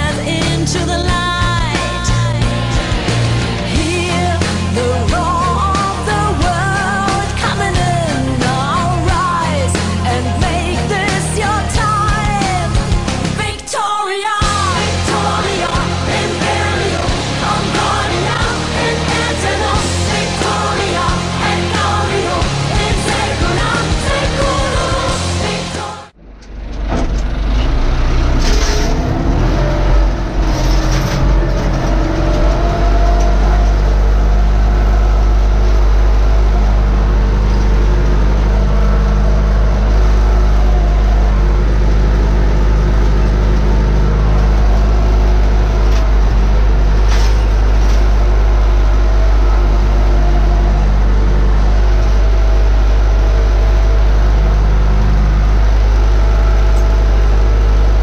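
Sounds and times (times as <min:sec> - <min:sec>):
music: 0:00.0 - 0:26.2, 0:28.7 - 0:58.0
tractor diesel engine running: 0:00.0 - 0:58.0.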